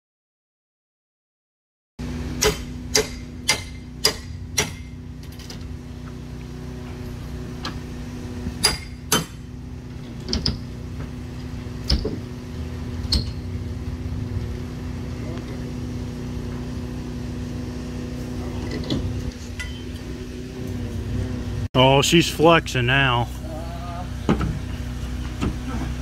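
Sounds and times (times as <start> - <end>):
steady low hum: 2.0 - 26.0.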